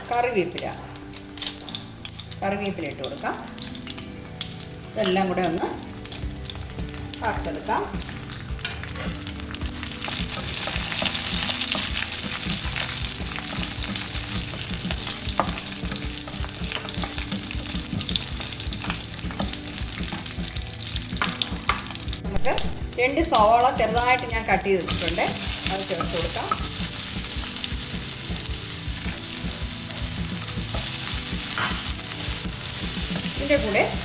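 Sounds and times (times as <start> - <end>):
oil sizzling in a pan: 0.0 - 34.0.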